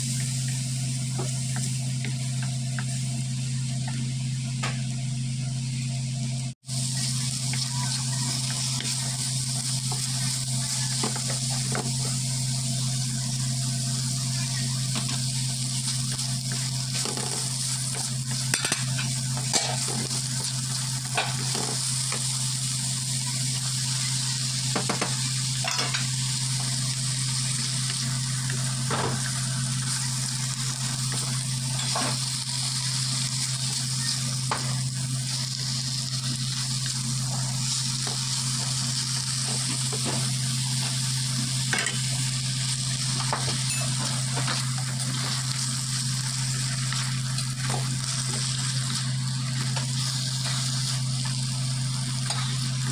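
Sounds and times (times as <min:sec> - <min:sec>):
steady low hum: 0:00.0 - 0:52.9
vegetables sizzling in oil: 0:00.0 - 0:52.9.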